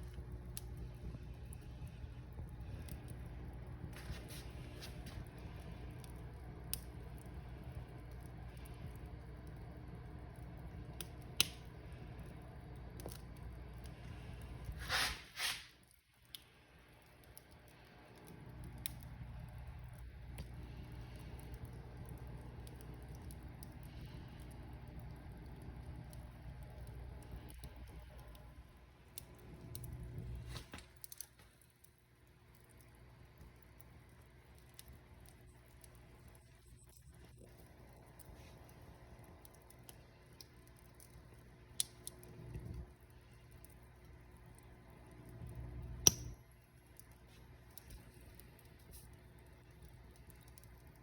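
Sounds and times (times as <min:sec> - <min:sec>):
fire popping: 0:00.0 - 0:51.0
low steady rumble: 0:00.0 - 0:51.0
wood fire crackling: 0:00.0 - 0:51.0.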